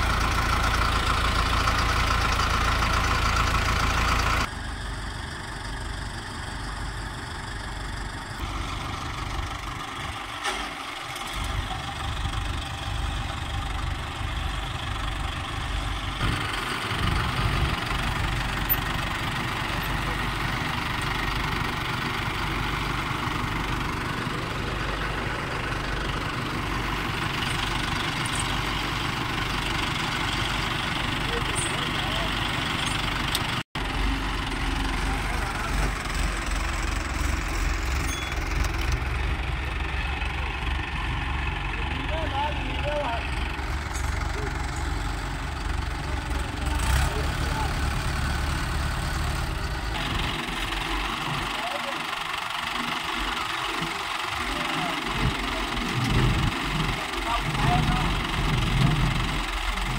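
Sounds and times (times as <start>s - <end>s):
diesel tractor engines idling: 0.0s - 59.9s.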